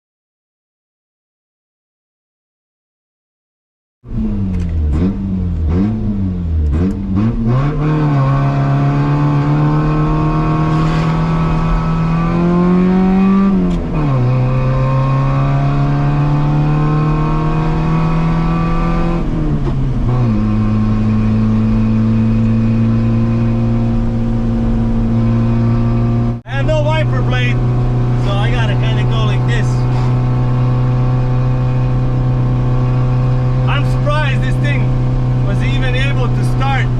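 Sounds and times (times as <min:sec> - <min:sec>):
car engine surging and idling: 0:04.1 - 0:36.9.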